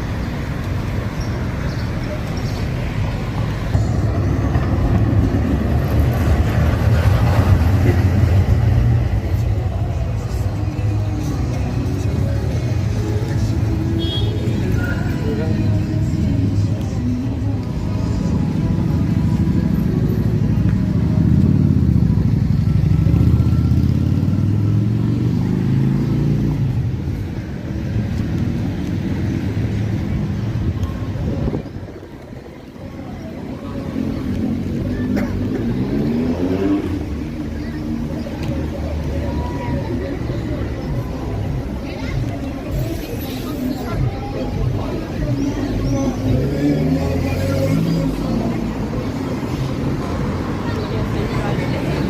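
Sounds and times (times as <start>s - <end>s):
vehicle engine rumble: 0.0s - 52.0s
voices: 0.0s - 52.0s.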